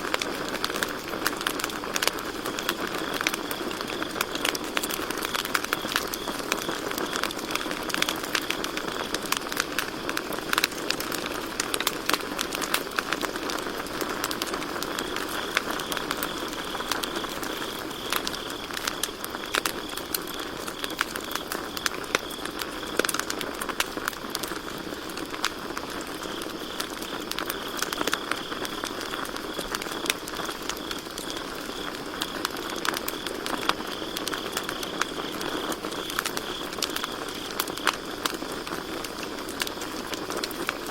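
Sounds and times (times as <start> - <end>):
campfire crackling and popping: 0.0 - 40.9
crickets chirping: 0.3 - 10.6, 13.2 - 40.9.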